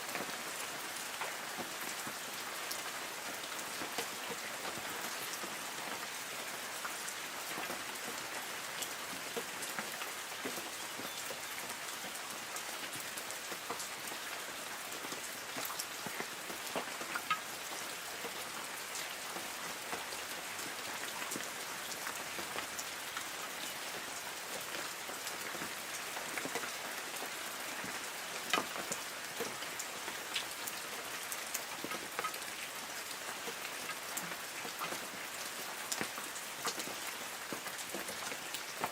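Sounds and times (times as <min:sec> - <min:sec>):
rain pattering on leaves: 0:00.0 - 0:38.9.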